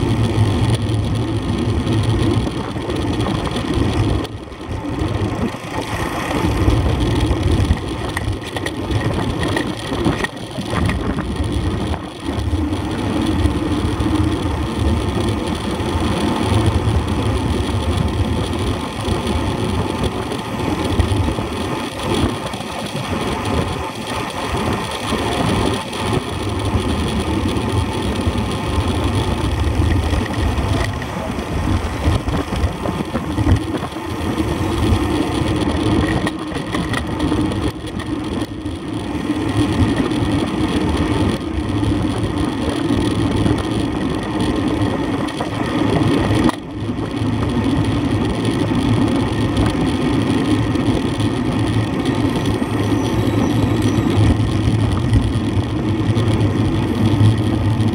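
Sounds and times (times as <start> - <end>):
road and tyre noise: 0.0 - 57.9
wind rushing over microphone: 0.0 - 57.9.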